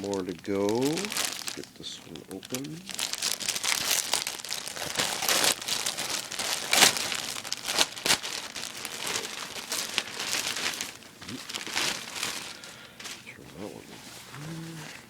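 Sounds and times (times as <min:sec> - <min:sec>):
plastic bag ripping: 0:00.0 - 0:13.2
plastic bag crinkling: 0:00.0 - 0:13.4.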